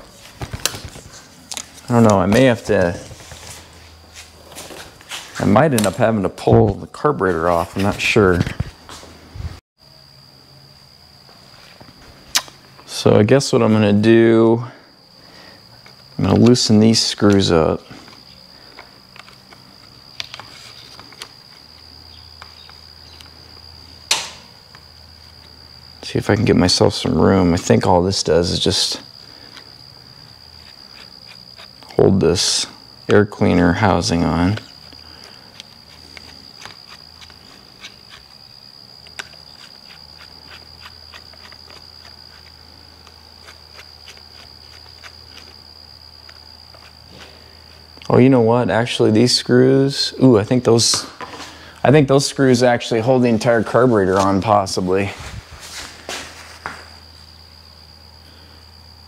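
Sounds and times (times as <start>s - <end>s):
steady high whine: 0.0s - 59.0s.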